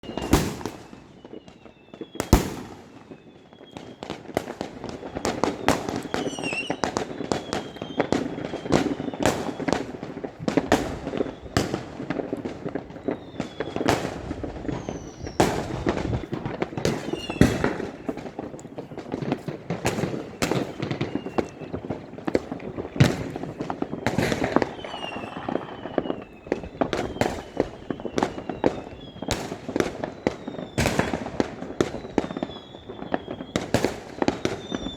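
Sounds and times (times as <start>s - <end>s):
firework shell whistles: 0.0s - 34.9s
fireworks bangs and booms: 0.0s - 34.9s
rumble of distant fireworks: 0.0s - 34.9s.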